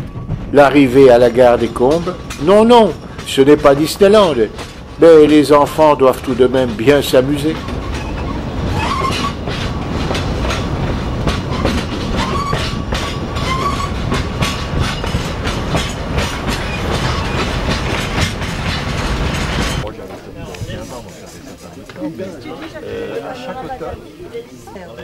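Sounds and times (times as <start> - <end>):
train wheels clattering on track: 0.0 - 22.7.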